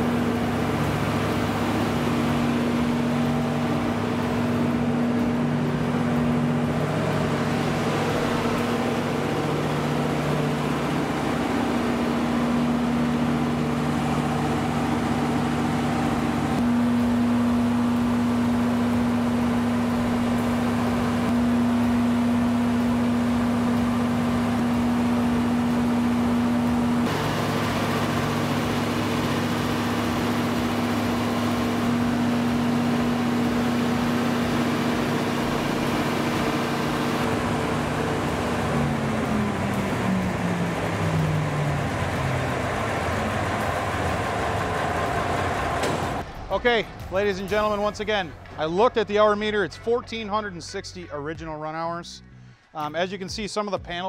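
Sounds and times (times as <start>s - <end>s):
diesel generator engine droning: 0.0s - 54.0s.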